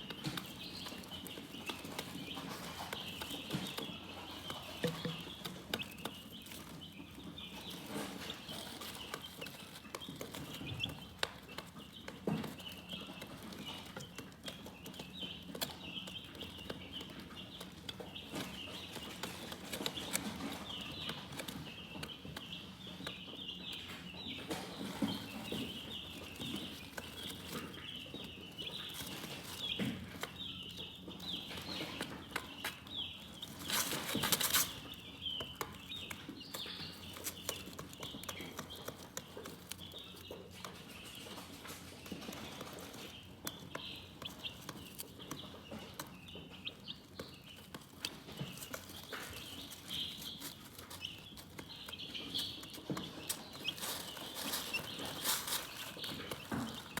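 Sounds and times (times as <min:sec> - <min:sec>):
chickens chirping: 0:00.0 - 0:57.0.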